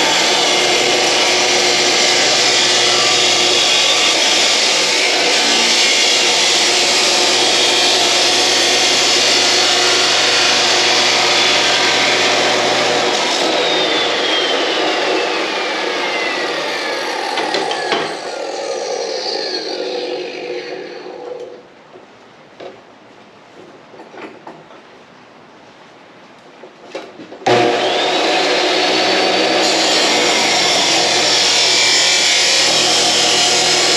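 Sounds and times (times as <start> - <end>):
power tool whine winding down: 0.0 - 21.2, 27.5 - 33.9.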